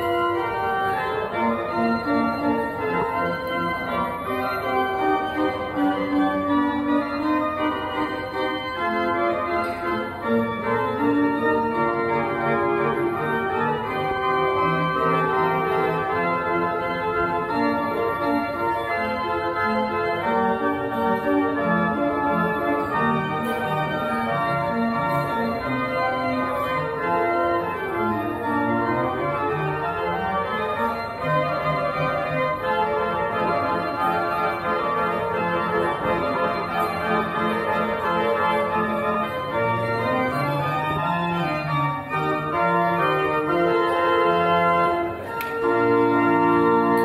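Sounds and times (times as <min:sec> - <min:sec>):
organ music: 0:00.0 - 0:47.0.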